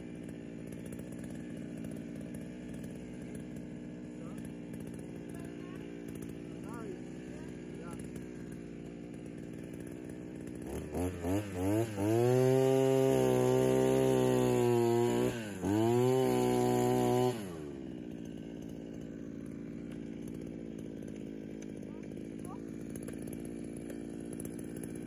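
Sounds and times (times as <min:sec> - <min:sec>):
earth auger engine revving: 0:00.0 - 0:25.0.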